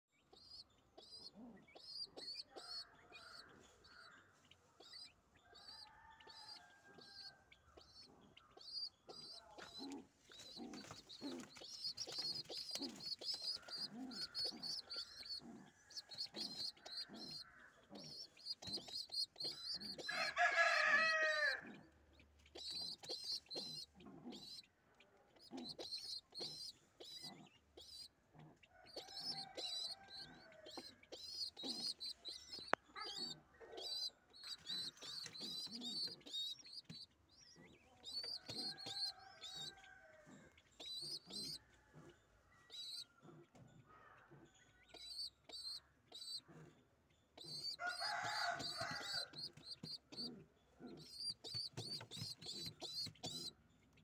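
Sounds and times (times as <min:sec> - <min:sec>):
birds chirping: 0:00.1 - 0:54.0.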